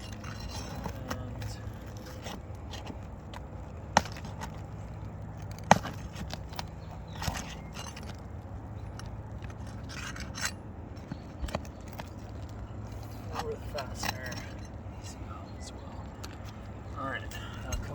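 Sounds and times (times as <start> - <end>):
pry bar scraping and clicking: 0.0 - 15.0, 15.8 - 17.9.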